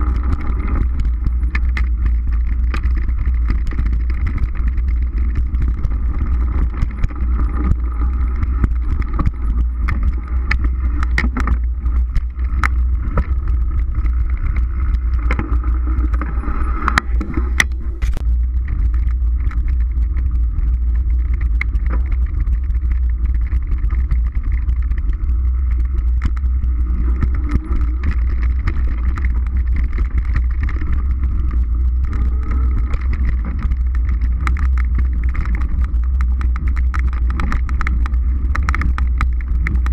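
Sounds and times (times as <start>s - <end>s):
bike clicks and rattles: 0.0s - 39.9s
tyre noise on dirt: 0.0s - 39.9s
wind rumble on microphone: 0.0s - 39.9s.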